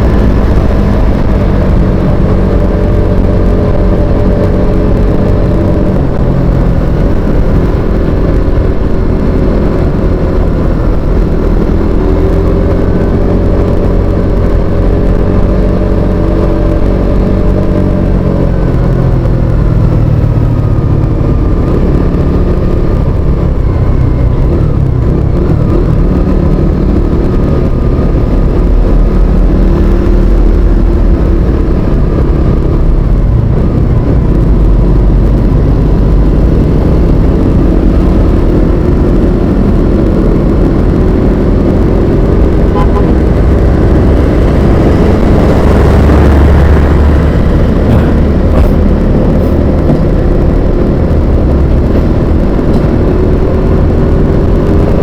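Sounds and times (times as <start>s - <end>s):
steady low rumble: 0.0s - 55.0s
vehicle engine running: 0.0s - 55.0s.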